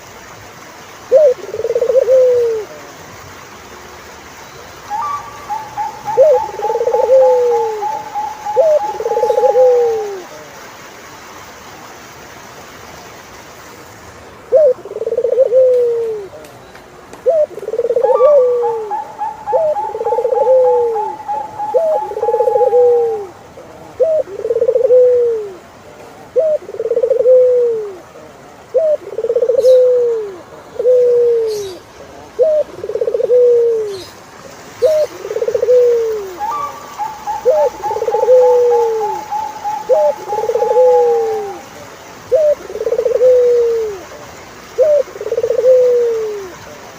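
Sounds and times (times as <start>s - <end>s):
doves cooing: 1.1s - 2.9s, 4.9s - 10.6s, 14.4s - 16.5s, 17.2s - 46.9s.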